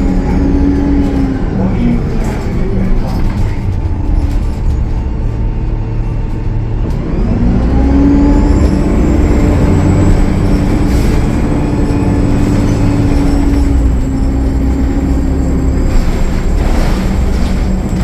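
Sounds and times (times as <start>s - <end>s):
bus diesel engine pulling away: 0.0s - 18.0s.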